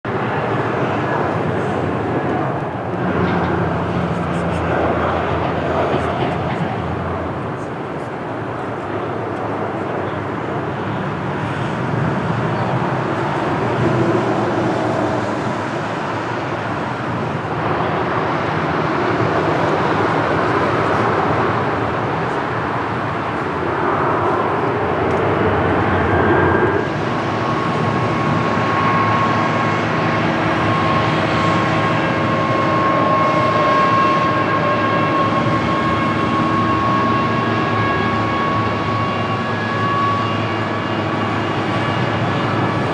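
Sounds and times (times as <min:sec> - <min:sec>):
jet engines rushing: 0:00.1 - 0:42.9.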